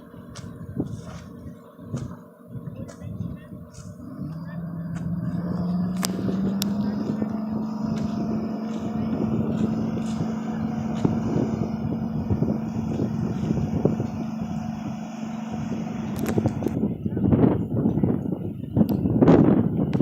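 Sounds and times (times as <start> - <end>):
engine running with crackly noise: 0.0 - 20.0.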